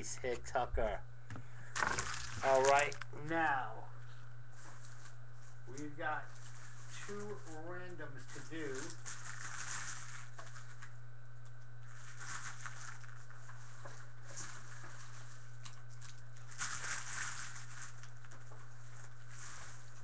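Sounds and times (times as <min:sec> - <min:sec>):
low electrical hum: 0:00.0 - 0:20.0
plastic wrapping crinkling: 0:01.7 - 0:03.4, 0:04.5 - 0:20.0.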